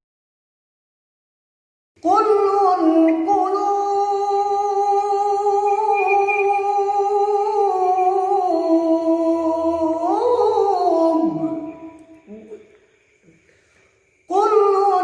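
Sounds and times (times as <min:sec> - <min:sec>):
person chanting a cappella: 0:02.0 - 0:13.5, 0:14.2 - 0:15.0.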